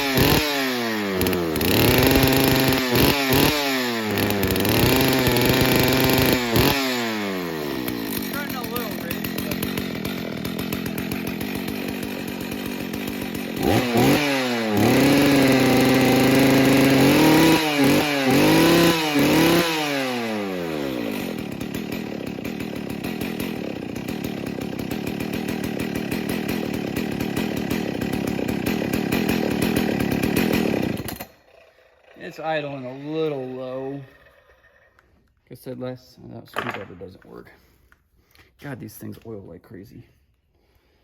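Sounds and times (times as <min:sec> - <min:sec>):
chainsaw engine idling and revving: 0:00.0 - 0:35.0.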